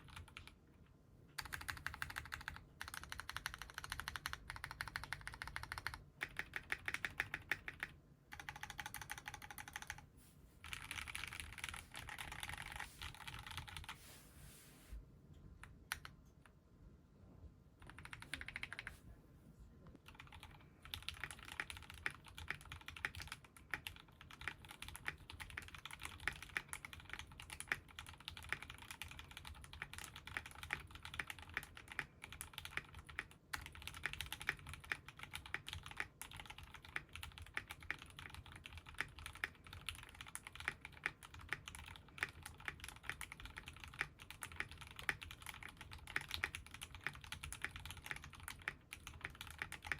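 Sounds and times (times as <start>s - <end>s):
mechanical keyboard typing: 0.0s - 0.6s, 1.4s - 14.0s, 15.6s - 16.2s, 17.8s - 19.0s, 20.0s - 49.9s.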